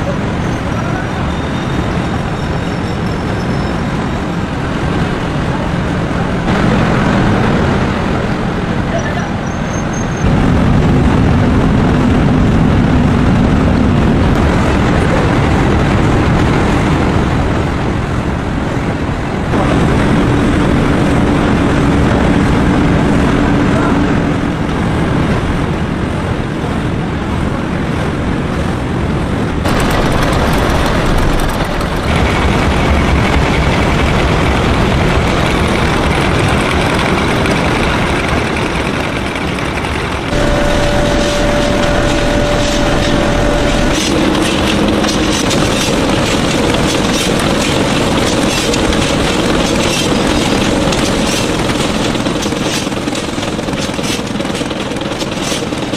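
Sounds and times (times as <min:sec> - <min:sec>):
factory machinery running: 0:00.0 - 0:55.9.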